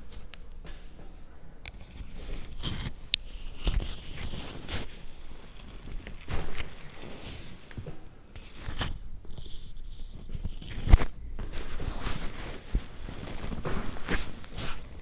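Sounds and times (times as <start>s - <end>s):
clothing rustling: 0.0s - 15.0s.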